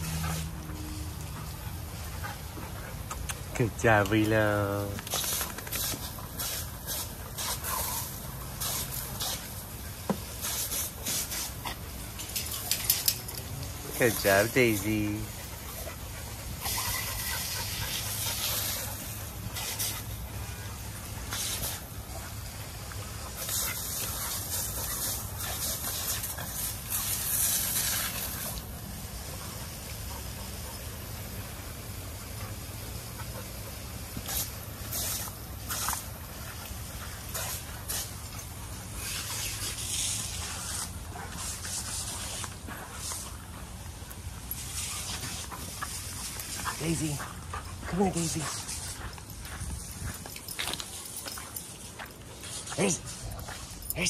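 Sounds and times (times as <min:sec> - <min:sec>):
hose spraying water on pavers: 0:00.0 - 0:54.0.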